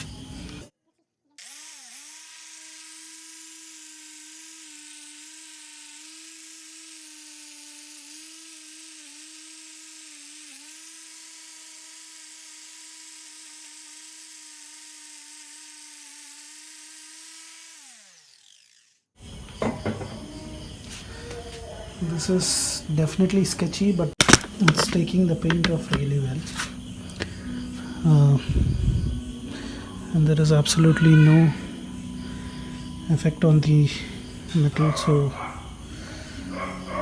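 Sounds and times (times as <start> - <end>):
angle grinder winding down: 1.4 - 37.0
angle grinder with wire wheel whining: 1.4 - 37.0.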